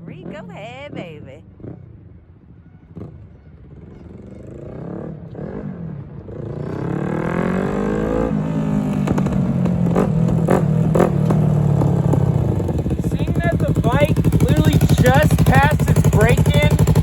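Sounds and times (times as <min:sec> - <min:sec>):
motorcycle engine accelerating: 0:00.0 - 0:02.1, 0:03.0 - 0:17.0.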